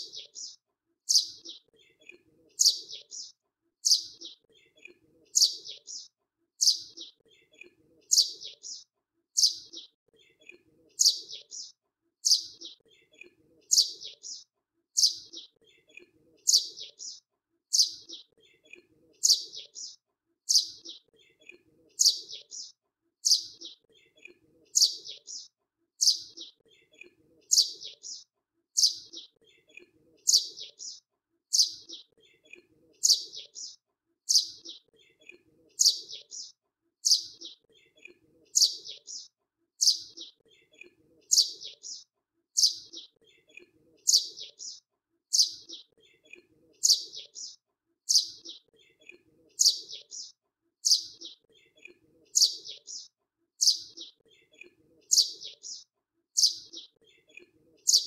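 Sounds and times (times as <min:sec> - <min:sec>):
small bird chirping: 0:00.0 - 0:58.0.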